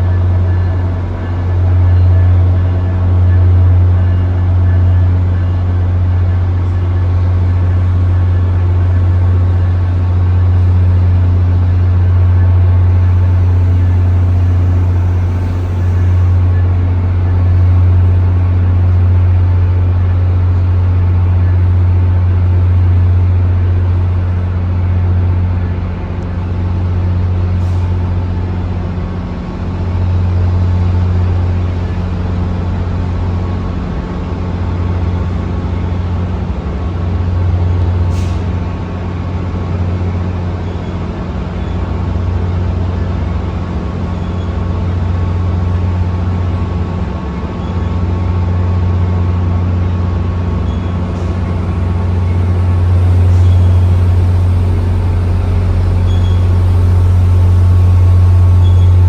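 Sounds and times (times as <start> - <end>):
vehicle low hum: 0.0 - 59.0.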